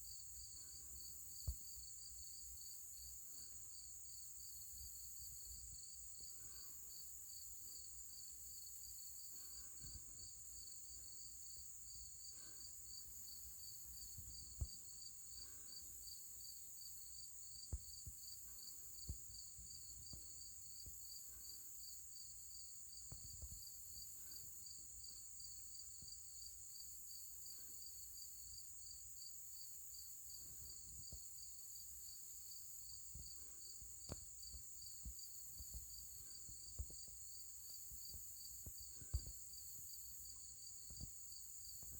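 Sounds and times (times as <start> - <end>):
high insect hiss: 0.0 - 41.9.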